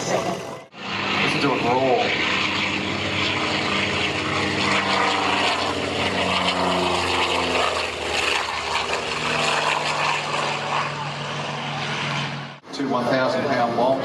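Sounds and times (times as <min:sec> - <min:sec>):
propeller aircraft drone: 0:00.0 - 0:14.0.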